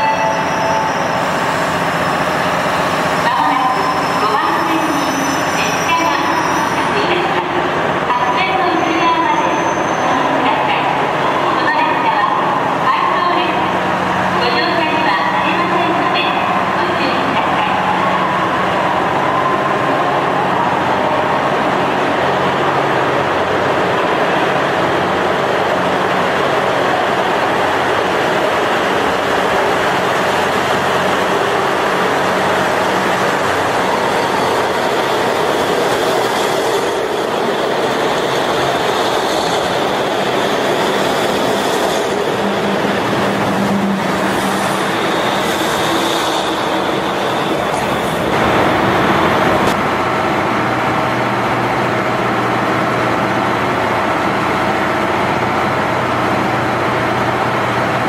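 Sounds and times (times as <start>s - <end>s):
diesel train engines running: 0.0s - 58.0s.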